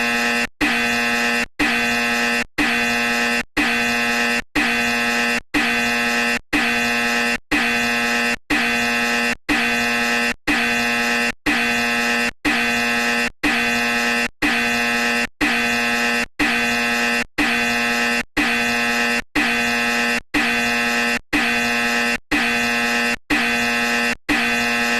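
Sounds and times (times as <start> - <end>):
harsh horn-like buzzing tone: 0.0 - 24.9.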